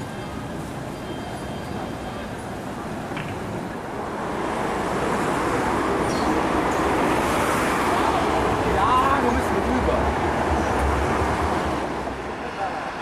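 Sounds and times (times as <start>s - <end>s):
city street traffic: 0.0s - 13.0s
tram running noise: 0.0s - 13.0s.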